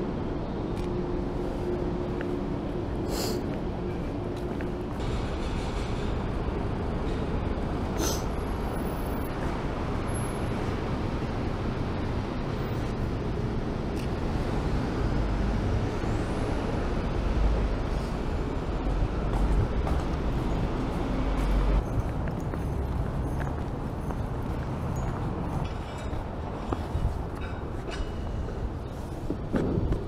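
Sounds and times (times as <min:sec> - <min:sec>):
urban traffic rumble: 0:00.0 - 0:30.0.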